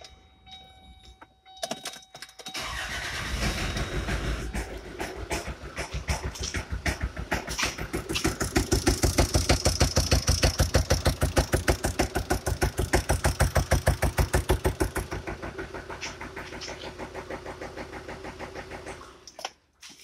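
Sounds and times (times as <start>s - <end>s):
diesel engine knocking: 2.8s - 19.2s.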